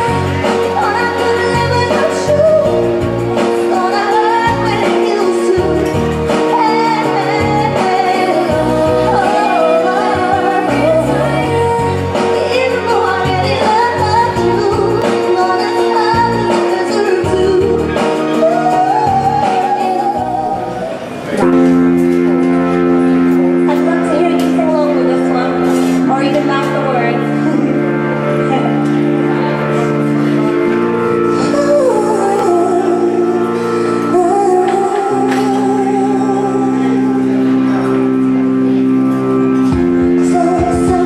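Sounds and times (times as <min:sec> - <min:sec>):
instrumental accompaniment: 0:00.0 - 0:41.0
woman singing into microphone: 0:00.0 - 0:41.0.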